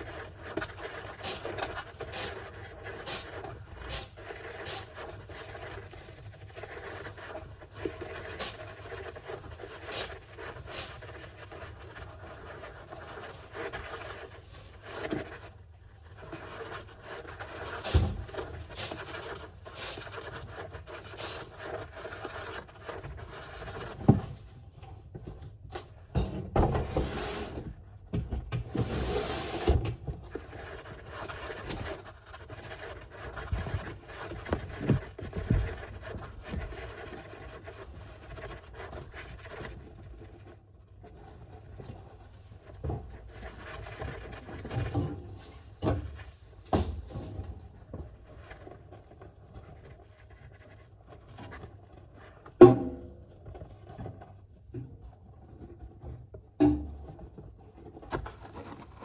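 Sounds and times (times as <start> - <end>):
hamster digging in sand: 0.0 - 26.0, 28.7 - 46.2, 47.6 - 59.0.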